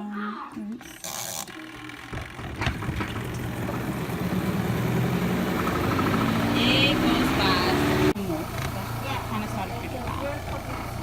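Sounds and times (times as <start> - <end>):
spin-dryer motor spinning up: 0.8 - 11.0.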